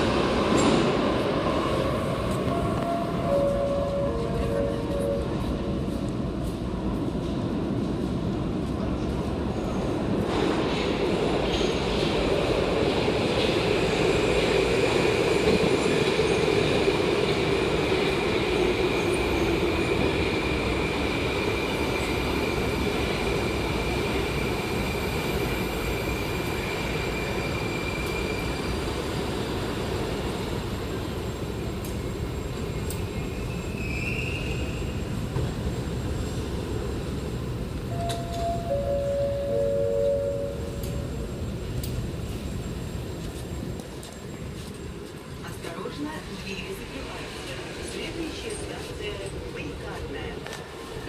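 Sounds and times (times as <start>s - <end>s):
train rumbling: 0.0s - 51.0s.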